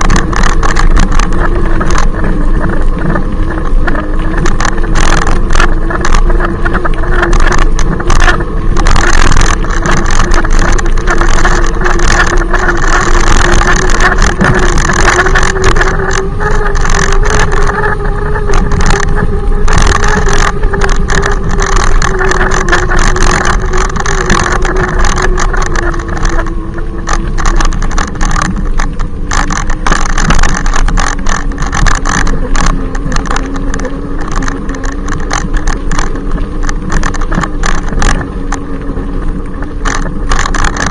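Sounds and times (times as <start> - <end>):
e-bike hub motor whining: 0.0 - 40.9
rushing crackling noise: 0.0 - 40.9.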